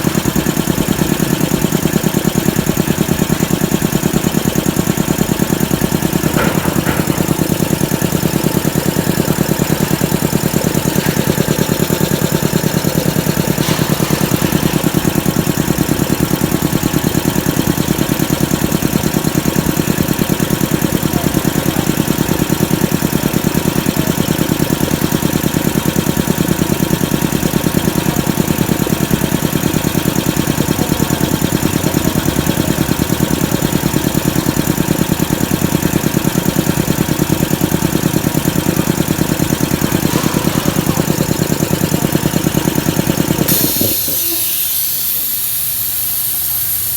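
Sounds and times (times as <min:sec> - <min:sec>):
air compressor running: 0:00.0 - 0:46.9.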